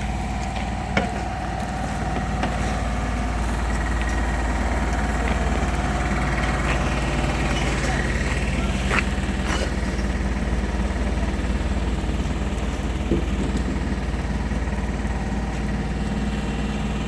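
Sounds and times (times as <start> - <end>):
engine idling low hum: 0.0 - 17.0.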